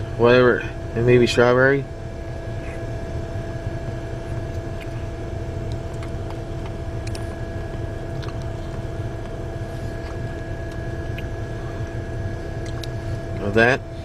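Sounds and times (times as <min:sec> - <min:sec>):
low rumble with hum: 0:00.0 - 0:14.0.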